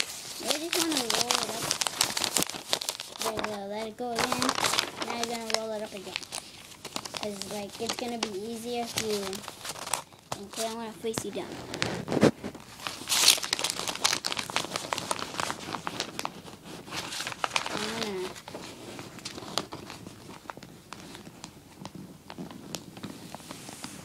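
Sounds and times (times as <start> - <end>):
paper crinkling and rustling: 0.0 - 24.0.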